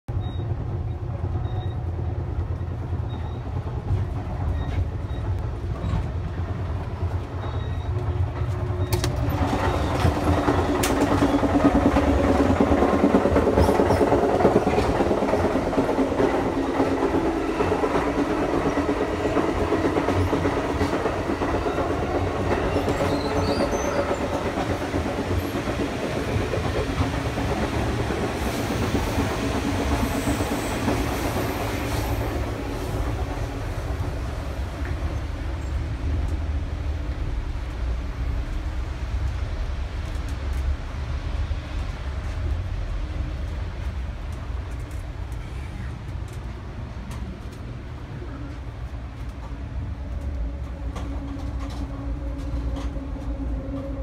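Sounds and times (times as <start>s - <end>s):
train rumble: 0.1s - 54.0s
wheel and track noise: 0.1s - 54.0s.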